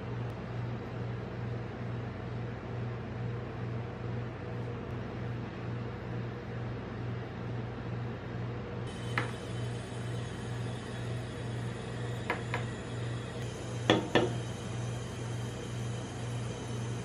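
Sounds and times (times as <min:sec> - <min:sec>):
refrigeration unit hum: 0:00.0 - 0:17.0.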